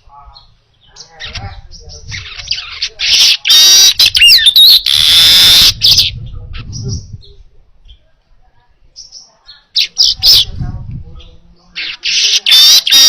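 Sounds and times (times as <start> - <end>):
bird chirping and trilling: 0.0 - 8.1, 8.9 - 10.6, 11.2 - 13.0.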